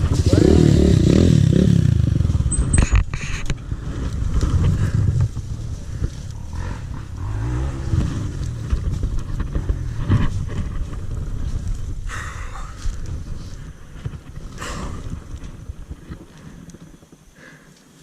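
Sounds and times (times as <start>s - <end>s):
dirt bike engine running unevenly: 0.0s - 17.7s.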